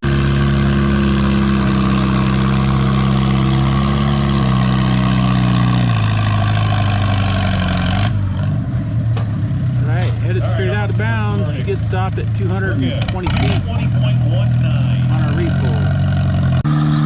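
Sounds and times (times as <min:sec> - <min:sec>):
tractor engine under load: 0:00.0 - 0:17.0.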